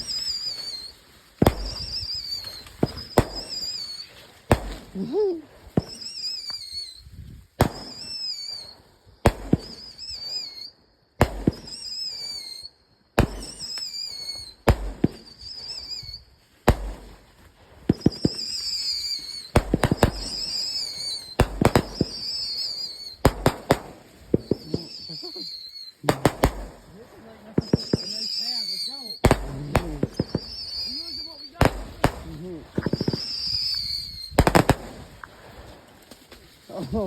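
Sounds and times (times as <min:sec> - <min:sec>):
firework cracks with whistles: 0:00.0 - 0:37.0.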